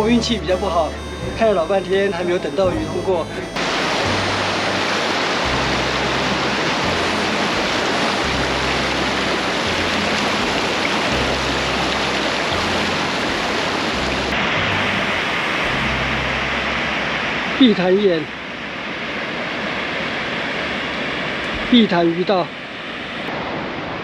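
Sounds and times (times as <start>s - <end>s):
river water rushing over a weir: 3.4s - 24.0s.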